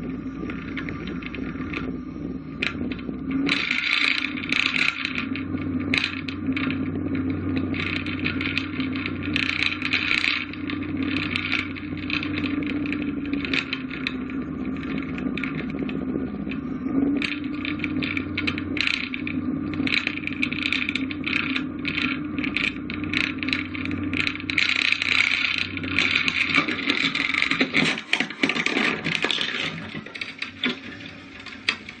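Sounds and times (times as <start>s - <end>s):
light aircraft engine droning: 0.0s - 32.0s
rattling and scraping: 0.0s - 32.0s
plane crashing with clattering: 2.7s - 32.0s.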